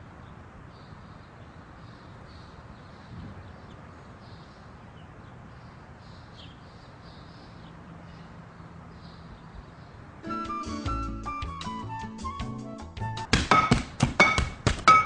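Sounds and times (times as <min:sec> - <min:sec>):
distant small birds chirping: 0:00.0 - 0:15.0
steady outdoor hiss: 0:00.0 - 0:15.0.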